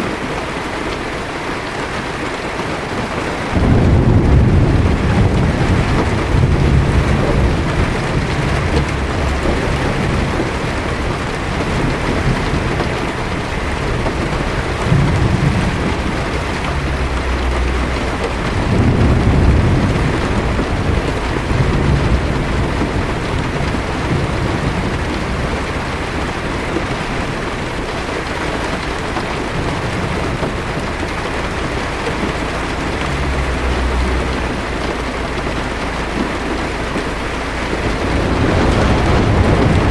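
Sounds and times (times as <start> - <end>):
heavy rain on car windshield: 0.0 - 39.9
distant thunder rumbling: 3.0 - 39.9.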